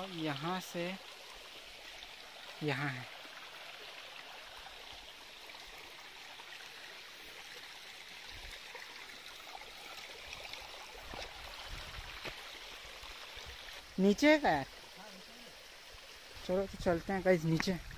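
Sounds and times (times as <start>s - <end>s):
stream flowing over stones: 0.0s - 17.9s.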